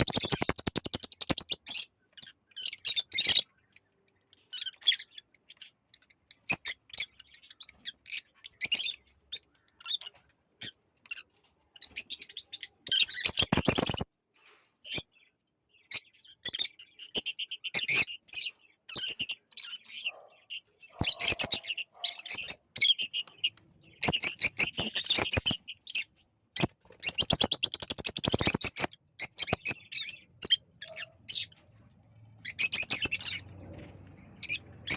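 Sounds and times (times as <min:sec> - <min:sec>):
parrots chattering: 0:00.0 - 0:14.1, 0:14.8 - 0:31.8, 0:32.4 - 0:33.6, 0:34.2 - 0:34.9.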